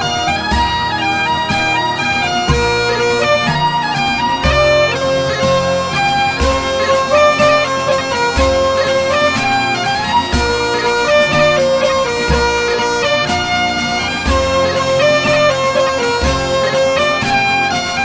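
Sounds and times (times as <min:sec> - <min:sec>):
bagpipe tune with drones: 0:00.0 - 0:18.0.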